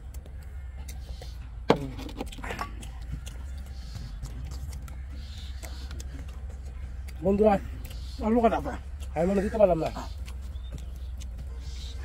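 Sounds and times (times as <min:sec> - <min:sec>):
chewing: 0:00.0 - 0:12.0
steady low hum: 0:00.0 - 0:12.0.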